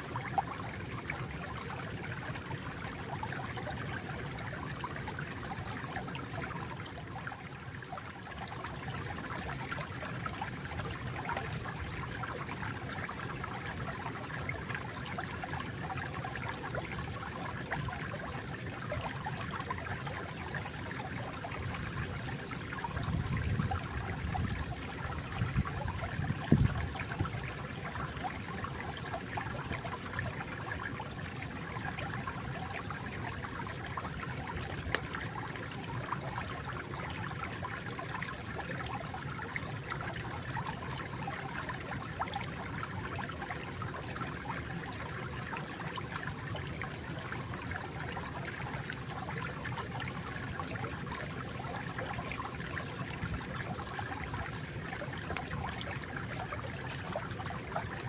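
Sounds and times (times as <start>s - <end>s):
low water gurgle: 0.0s - 58.0s
stream of water trickling: 0.0s - 58.0s.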